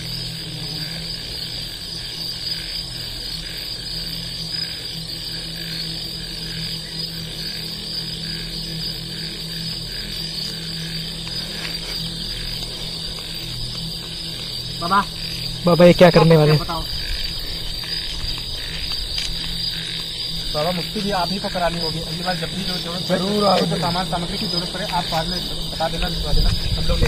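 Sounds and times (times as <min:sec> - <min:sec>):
low pulsing drone: 0:00.0 - 0:27.0
night insects chirping: 0:00.0 - 0:27.0.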